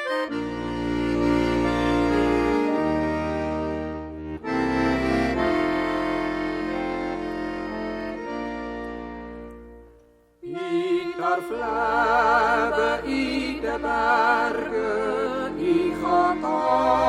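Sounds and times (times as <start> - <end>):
accordion playing chords: 0.0 - 17.0.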